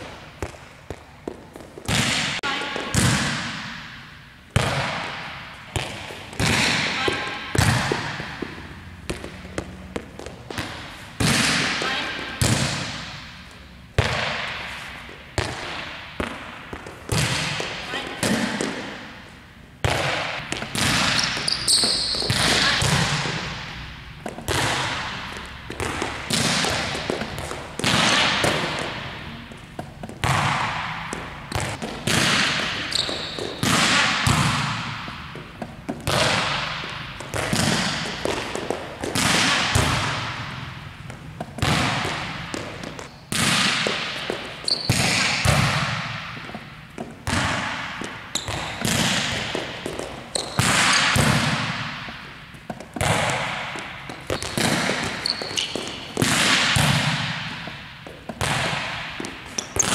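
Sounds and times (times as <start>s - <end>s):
volleyball hits echoing: 0.0s - 59.9s.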